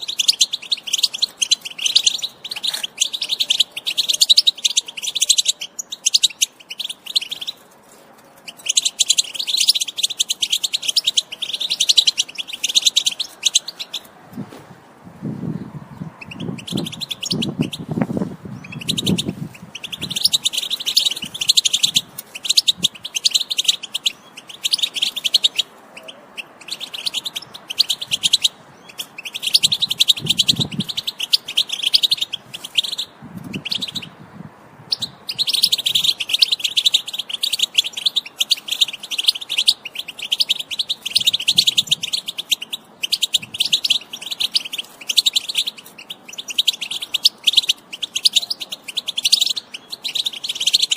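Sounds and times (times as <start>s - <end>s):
goldfinch twittering song: 0.0s - 7.6s, 8.4s - 14.1s, 15.6s - 34.2s, 34.9s - 50.9s.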